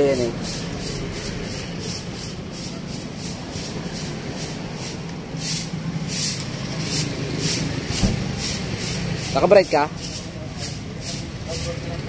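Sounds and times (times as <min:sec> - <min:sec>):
broom brushing concrete floor: 0:00.0 - 0:12.0.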